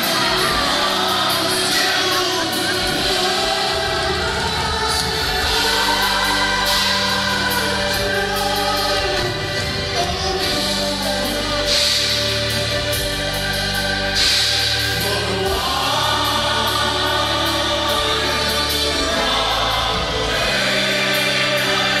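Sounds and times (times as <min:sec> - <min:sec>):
female and male vocals: 0:00.0 - 0:22.0
live rock band playing: 0:00.0 - 0:22.0.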